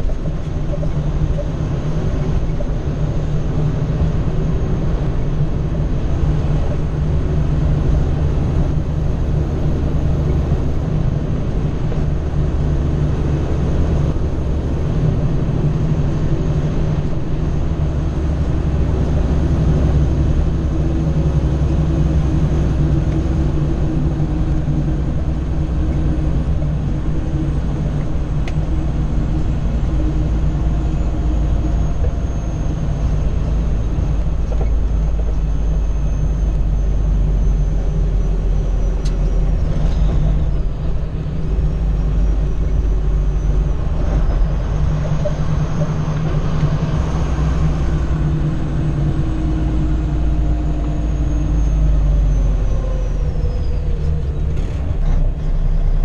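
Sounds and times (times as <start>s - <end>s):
road noise: 0.0s - 56.0s
truck diesel engine drone: 0.0s - 56.0s.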